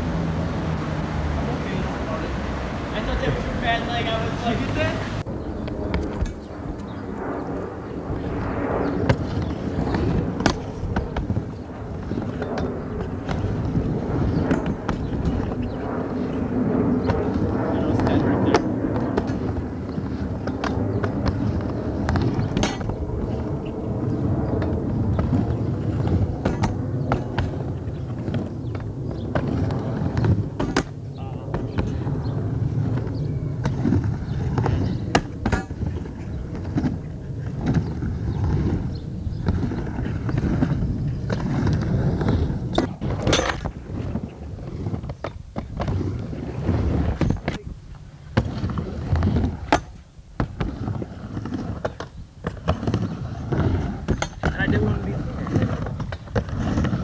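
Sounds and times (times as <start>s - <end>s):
skateboard wheels rolling on wood: 0.0s - 57.0s.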